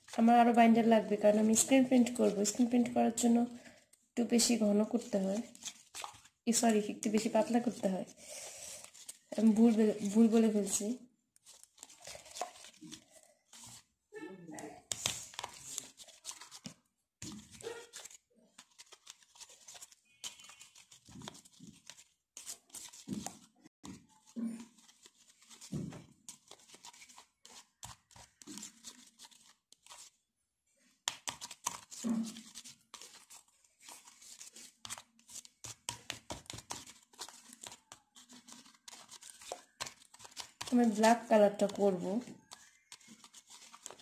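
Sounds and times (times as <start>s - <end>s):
paste stirred in plastic bowl: 0.0s - 3.8s, 4.4s - 14.0s, 14.8s - 30.2s, 31.0s - 44.0s.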